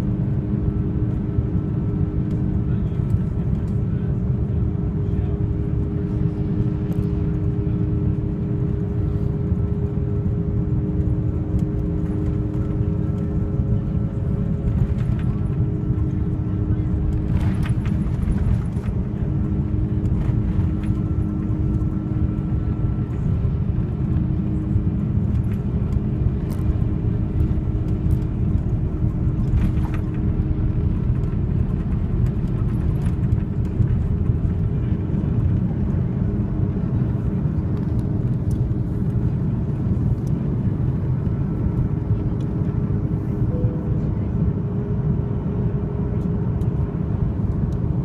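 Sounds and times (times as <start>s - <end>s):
aircraft cabin low rumble: 0.0s - 48.0s.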